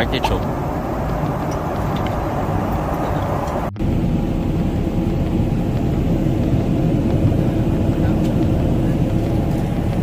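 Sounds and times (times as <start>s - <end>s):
airplane cabin rushing air: 0.0s - 10.0s
jet engines droning: 0.0s - 10.0s.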